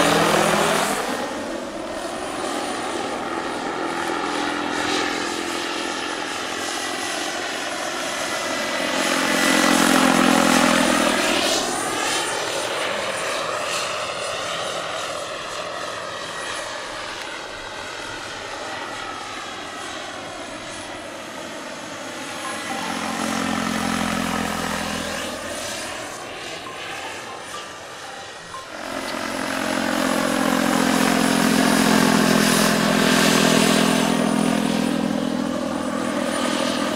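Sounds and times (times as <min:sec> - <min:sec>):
model helicopter turbine whine: 0:00.0 - 0:36.9.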